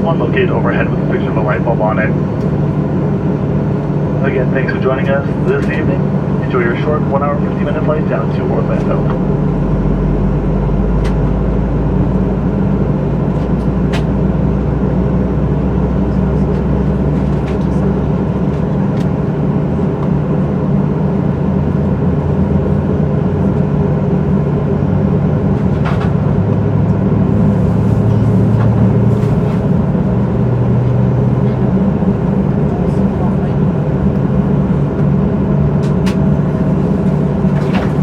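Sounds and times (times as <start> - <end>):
jet engines humming: 0.0 - 38.0.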